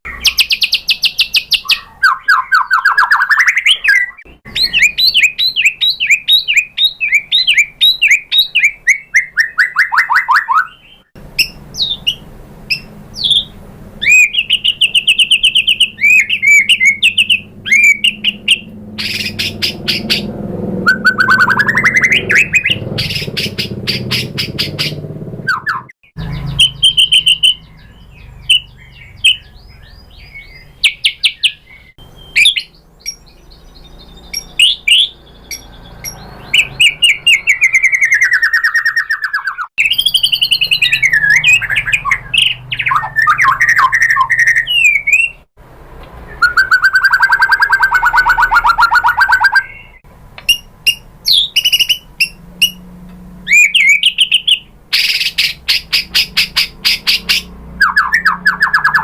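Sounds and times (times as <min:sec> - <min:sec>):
bird singing whistled song: 0:00.1 - 0:45.5, 0:46.3 - 0:52.8, 0:53.5 - 0:59.0.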